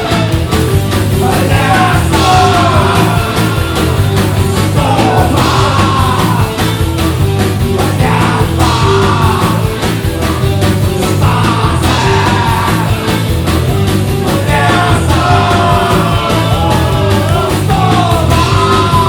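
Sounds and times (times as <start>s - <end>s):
bass line: 0.0s - 19.0s
drums: 0.0s - 19.0s
wavering lead guitar line: 0.0s - 19.0s.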